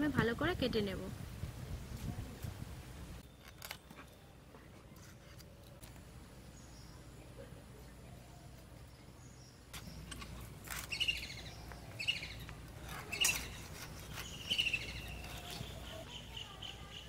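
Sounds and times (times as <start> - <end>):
birds chirping: 3.1 - 17.0.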